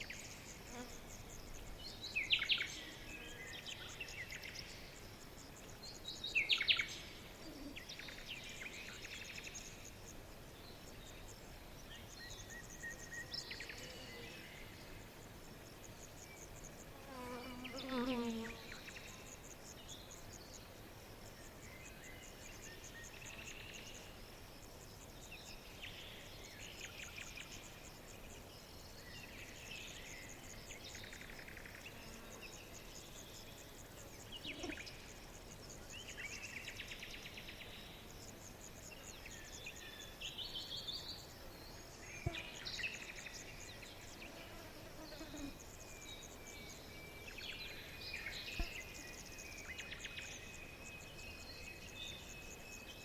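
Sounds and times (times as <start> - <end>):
insects chirring: 0.0 - 53.0
songbirds chirping: 0.0 - 53.0.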